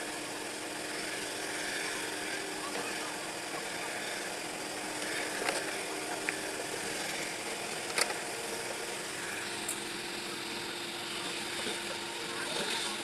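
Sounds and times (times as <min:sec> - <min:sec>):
heavy equipment engine running: 0:00.0 - 0:13.0.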